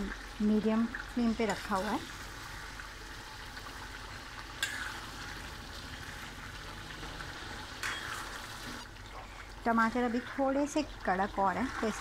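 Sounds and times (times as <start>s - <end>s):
food simmering and sizzling: 0.0s - 12.0s.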